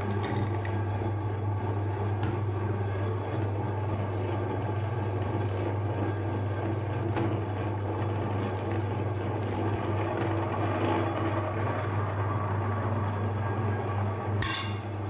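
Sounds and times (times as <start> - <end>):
meat grinder motor humming: 0.0 - 15.0.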